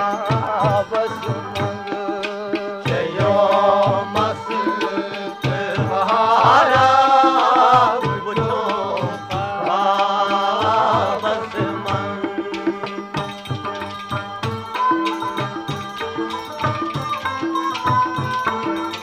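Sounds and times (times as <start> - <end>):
folk song melody: 0.0 - 19.0
hand drum beat: 0.0 - 19.0.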